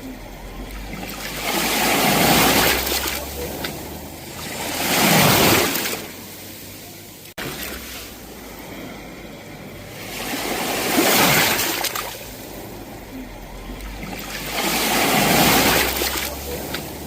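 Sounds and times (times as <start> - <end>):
sea waves breaking on shore: 0.6 - 17.0.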